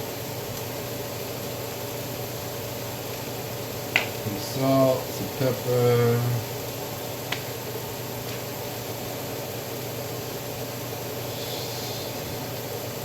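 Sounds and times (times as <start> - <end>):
low electrical hum: 0.0 - 13.0
range hood fan rushing air: 0.0 - 13.0.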